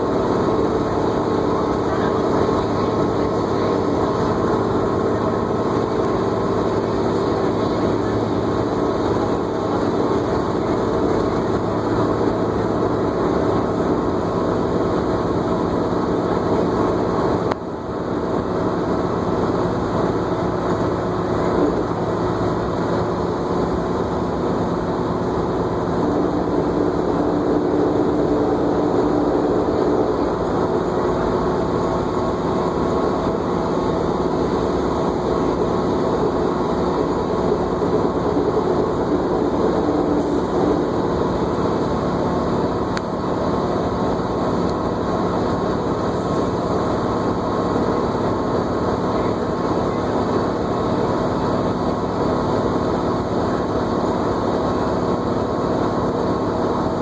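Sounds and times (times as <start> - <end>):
bus engine and road noise: 0.0 - 57.0
whine: 0.0 - 57.0.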